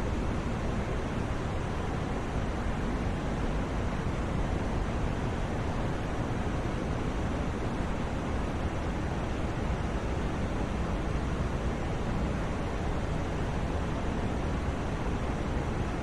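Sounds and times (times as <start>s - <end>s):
steady white noise hiss: 0.0s - 16.0s.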